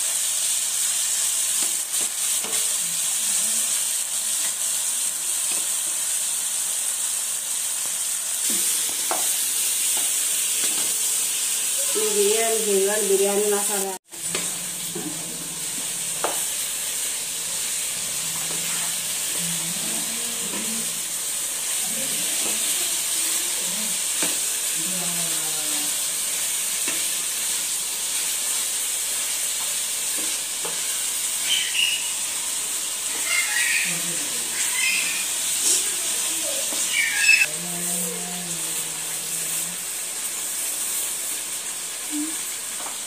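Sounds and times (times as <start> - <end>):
oil sizzling in a pan: 0.0 - 43.0.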